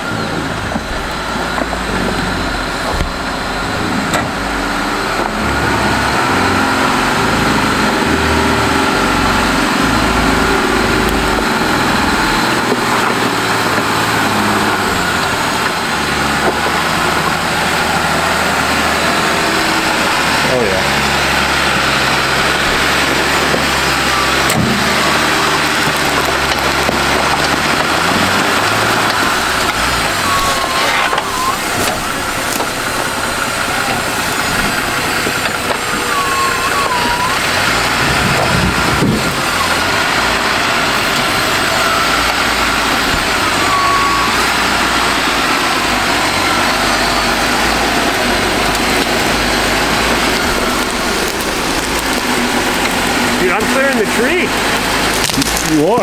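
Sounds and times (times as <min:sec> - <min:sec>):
engine working under load: 0:00.0 - 0:56.0
rushing noise of engine and tyres: 0:00.0 - 0:56.0.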